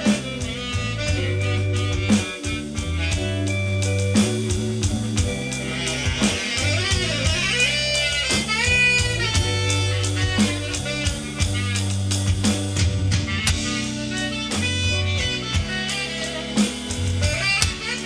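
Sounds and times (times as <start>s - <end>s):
bass notes: 0.0s - 18.0s
drum kit beat: 0.0s - 18.0s.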